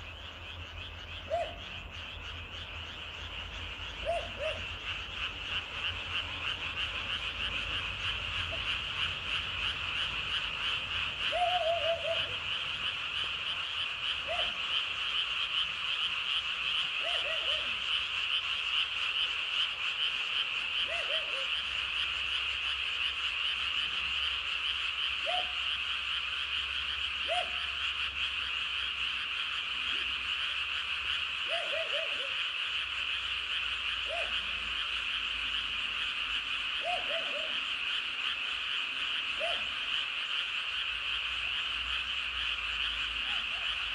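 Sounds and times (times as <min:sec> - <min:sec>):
high-pitched frog chorus: 0:00.0 - 0:43.9
low frog croaking: 0:00.0 - 0:43.9.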